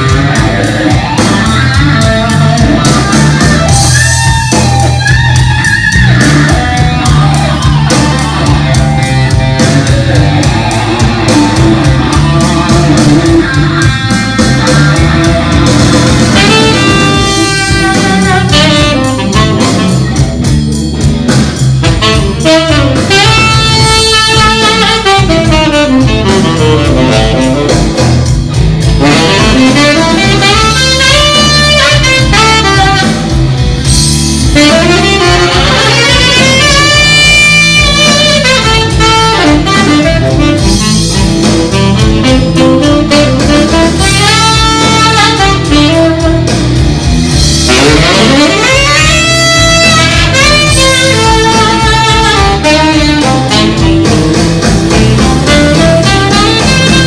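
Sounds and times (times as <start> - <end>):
electric guitar accompaniment: 0.0 - 57.0
saxophone solo: 0.0 - 57.0.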